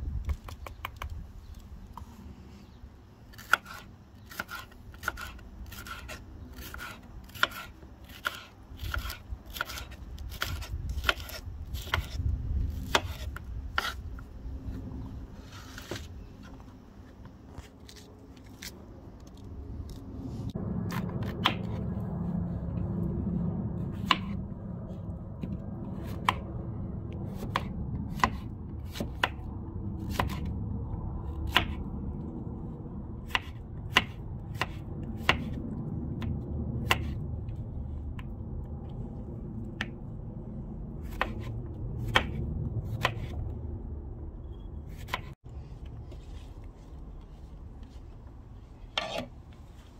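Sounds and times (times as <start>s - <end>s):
low background rumble: 0.0s - 49.9s.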